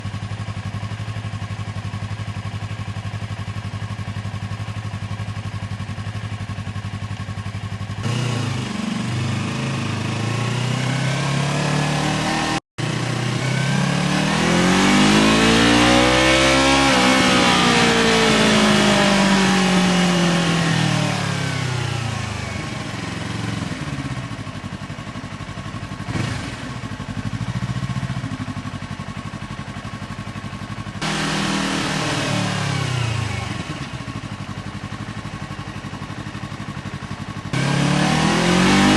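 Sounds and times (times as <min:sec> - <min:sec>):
motorcycle engine idling: 0:00.0 - 0:11.9, 0:12.8 - 0:15.3, 0:17.1 - 0:38.6
motorcycle engine revving: 0:00.0 - 0:38.9.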